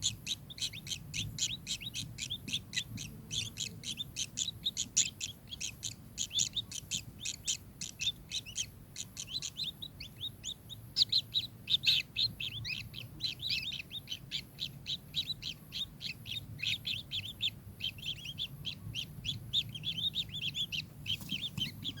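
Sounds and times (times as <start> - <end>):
kingfisher chattering: 0.3 - 22.0.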